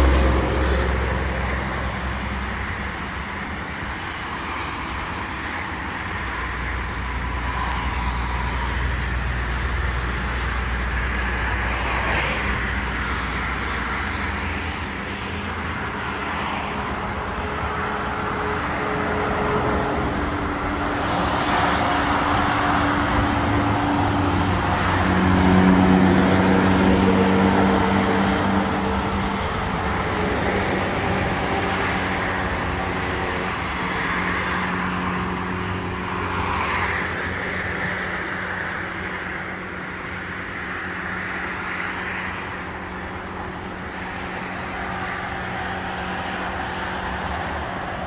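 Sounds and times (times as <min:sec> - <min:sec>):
broad rushing noise: 0:00.0 - 0:48.0
engine hum: 0:00.0 - 0:48.0.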